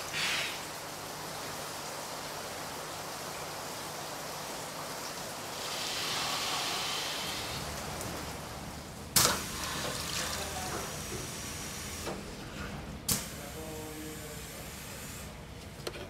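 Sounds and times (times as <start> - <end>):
water rushing through pipes: 0.0 - 15.3.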